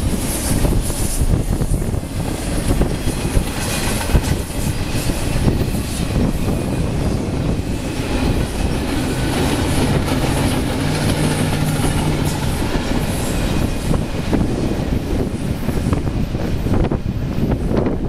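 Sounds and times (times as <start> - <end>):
rail joint clicks: 0.0 - 18.0
train wheels rumbling on rail: 0.0 - 18.0.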